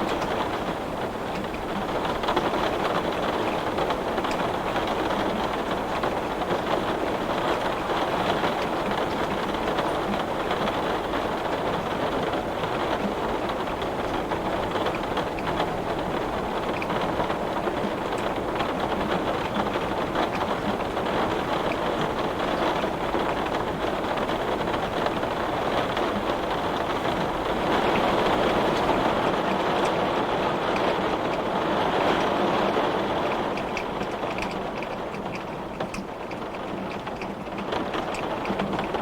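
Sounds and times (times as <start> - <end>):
heavy rain on window glass: 0.0 - 39.0.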